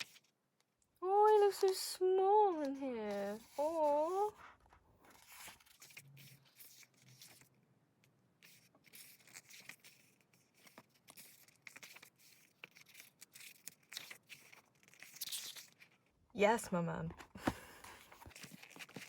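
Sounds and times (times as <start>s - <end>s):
pages being turned and rustled: 0.0s - 0.4s, 1.2s - 7.6s, 8.4s - 16.1s, 17.1s - 19.0s
soft paper ticks and crinkles: 0.0s - 16.2s, 17.6s - 19.0s.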